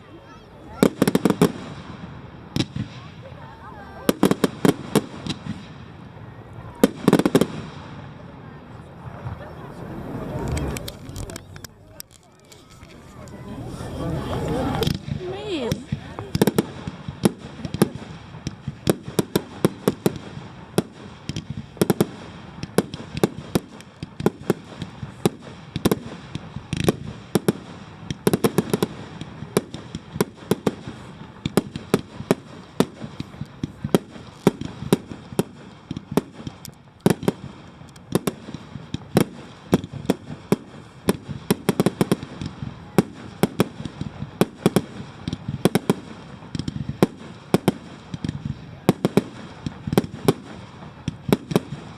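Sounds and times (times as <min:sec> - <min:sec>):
fireworks bangs and pops: 0:00.0 - 0:51.9.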